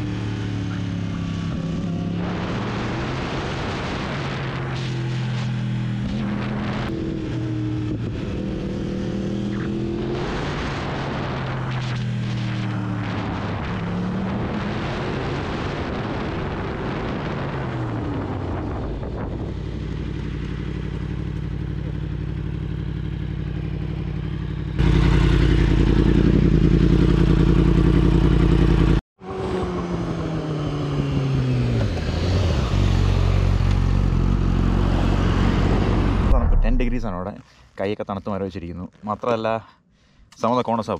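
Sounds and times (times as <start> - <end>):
motorcycle engine revving: 0.0 - 37.1.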